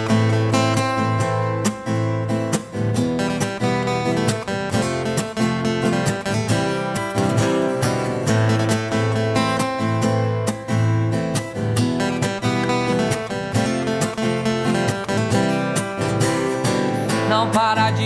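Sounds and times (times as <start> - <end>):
strummed acoustic guitar music: 0.0 - 18.0.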